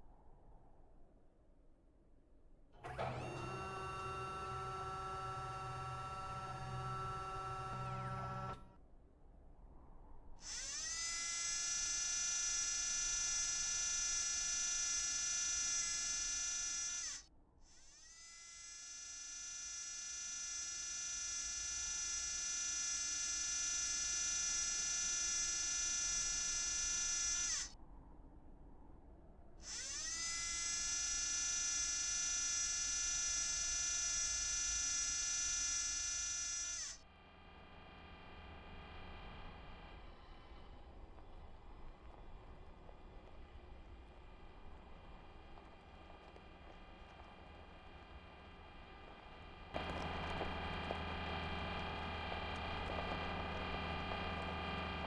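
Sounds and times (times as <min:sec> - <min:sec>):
electric motor whine: 0:02.8 - 0:08.8, 0:10.4 - 0:27.8, 0:29.6 - 0:55.0.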